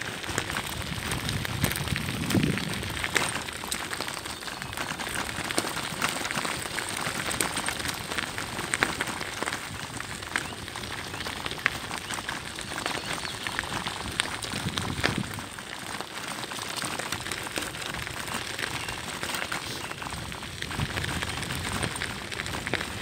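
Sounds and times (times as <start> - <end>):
bicycle tyres crunching on gravel: 0.0 - 23.0.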